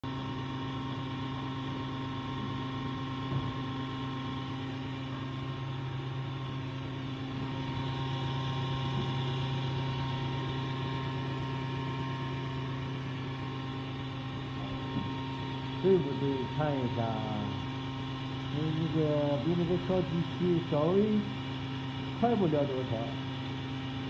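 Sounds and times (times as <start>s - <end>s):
milk separator humming: 0.0s - 24.0s.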